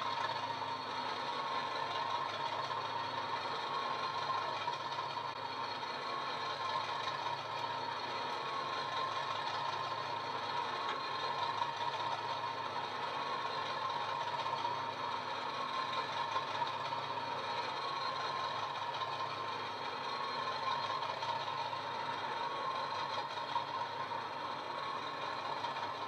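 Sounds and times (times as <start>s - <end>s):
diesel locomotive idling on small speaker: 0.0s - 26.0s.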